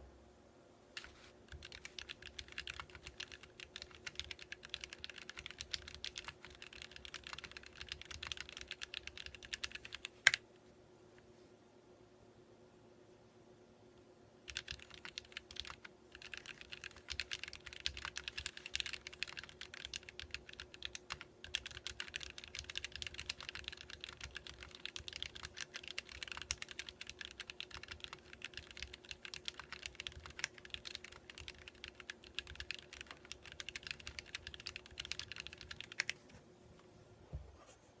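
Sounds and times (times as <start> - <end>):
mechanical keyboard typing: 1.0 - 10.4, 14.4 - 36.2.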